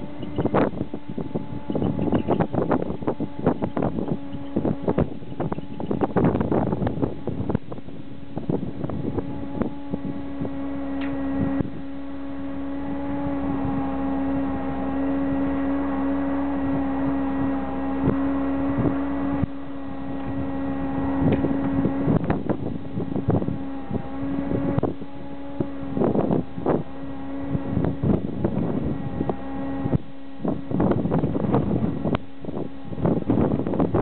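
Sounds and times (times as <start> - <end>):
mechanical hum: 0.0 - 34.0
wind buffeting microphone: 0.0 - 34.0.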